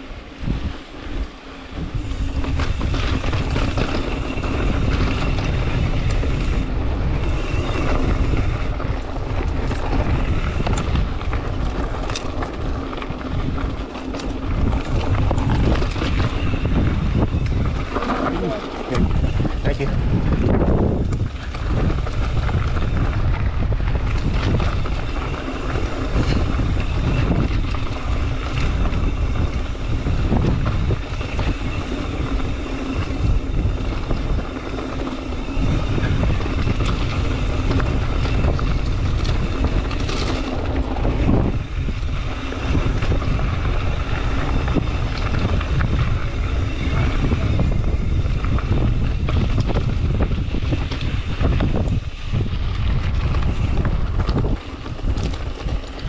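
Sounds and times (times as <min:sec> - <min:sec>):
bike clicking and rattling: 0:00.0 - 0:56.0
rumble of bike tyres: 0:00.0 - 0:56.0
wind buffeting microphone: 0:00.0 - 0:56.0.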